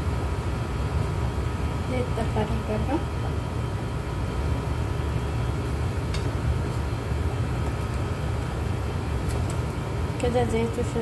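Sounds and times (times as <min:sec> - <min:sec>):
faint hum: 0:00.0 - 0:11.0
low mechanical rumble: 0:00.0 - 0:11.0.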